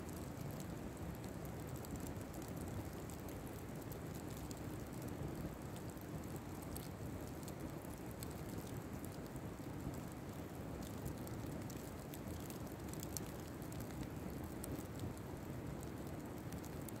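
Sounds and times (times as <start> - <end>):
crackles and pops of fire: 0.0 - 17.0
open fire burning: 0.0 - 17.0.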